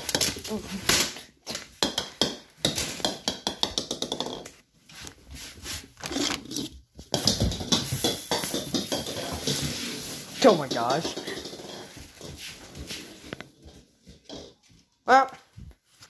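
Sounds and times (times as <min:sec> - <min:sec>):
dog claws scrabbling on tile: 0:00.0 - 0:05.2, 0:06.0 - 0:14.8.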